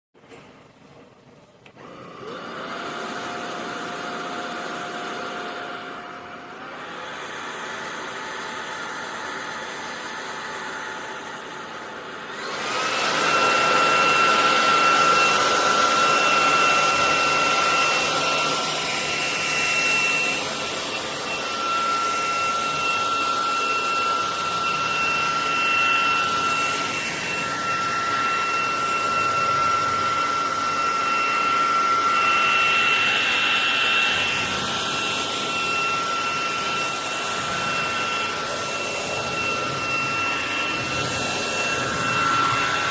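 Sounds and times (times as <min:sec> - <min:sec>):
stick vacuum cleaner whining: 0:00.3 - 0:42.9.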